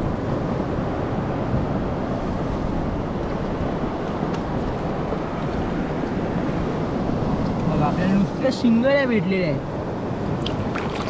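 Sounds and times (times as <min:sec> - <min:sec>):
sea surf on rocky shore: 0:00.0 - 0:11.0
wind buffeting microphone: 0:00.0 - 0:11.0.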